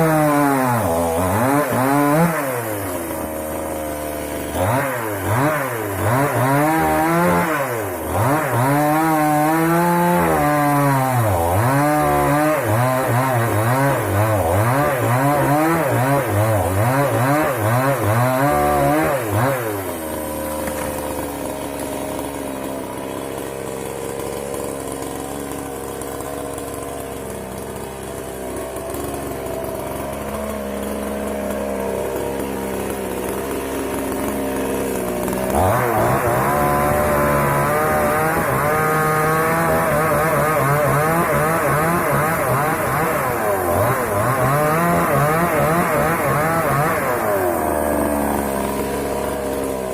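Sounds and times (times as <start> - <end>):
chainsaw cutting wood: 0.0 - 49.9
chainsaw idling: 0.0 - 49.9.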